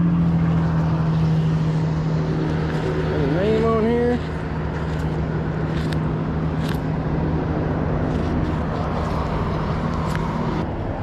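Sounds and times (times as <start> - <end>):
low engine hum: 0.0 - 11.0
rumbling background noise: 0.0 - 11.0.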